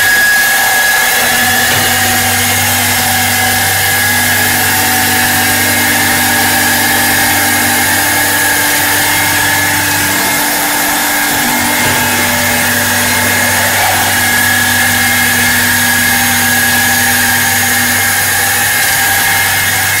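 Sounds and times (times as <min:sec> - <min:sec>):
lathe motor hum and whine: 0:00.0 - 0:20.0.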